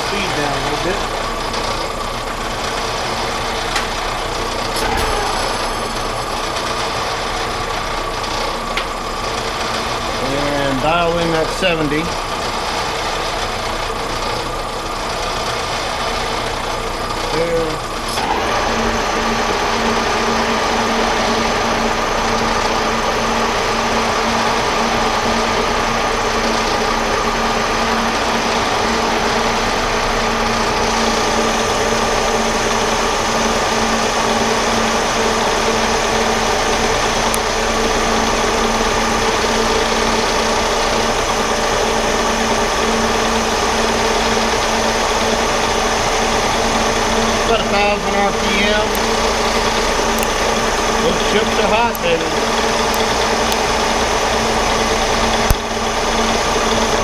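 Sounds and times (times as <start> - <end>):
machine drive whine: 0.0 - 57.0
metal lathe cutting steel: 0.0 - 57.0.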